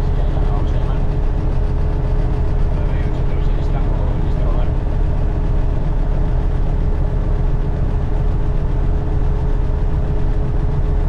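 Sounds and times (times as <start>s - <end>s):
light aircraft engine rumble: 0.0s - 11.0s.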